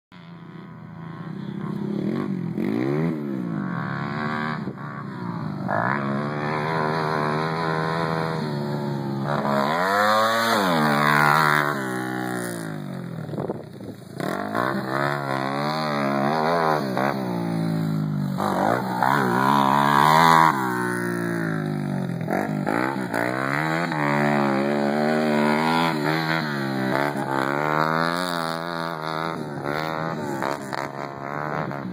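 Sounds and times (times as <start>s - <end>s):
quad engine revving: 0.2s - 31.9s.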